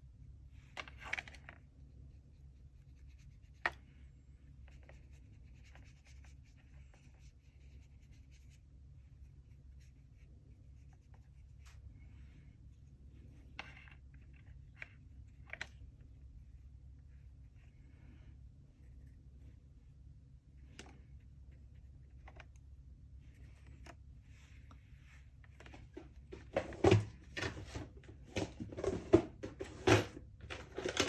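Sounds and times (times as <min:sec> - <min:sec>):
steady low hum: 0:00.0 - 0:30.6.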